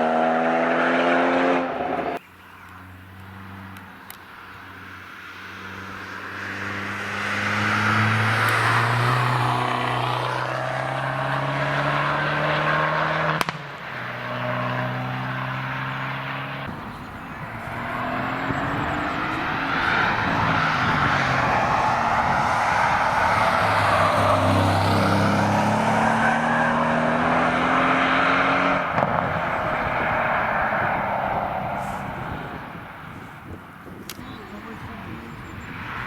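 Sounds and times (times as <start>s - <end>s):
race cars accelerating past: 0.0s - 2.2s, 2.8s - 33.8s.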